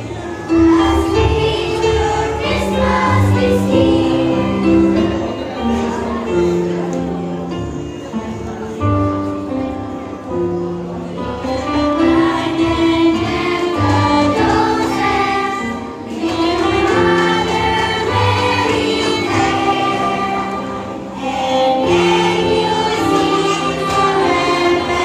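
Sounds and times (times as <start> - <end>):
children's choir singing: 0.0 - 25.0
instrumental backing music: 0.0 - 25.0.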